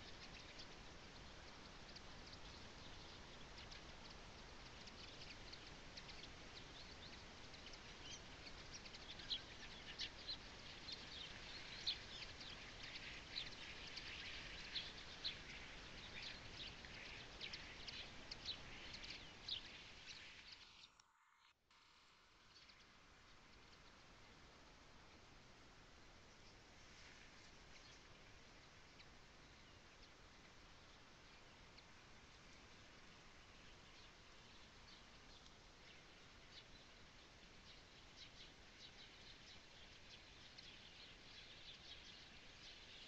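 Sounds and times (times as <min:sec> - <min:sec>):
songbirds chirping: 0:00.0 - 0:21.4, 0:22.1 - 0:43.0.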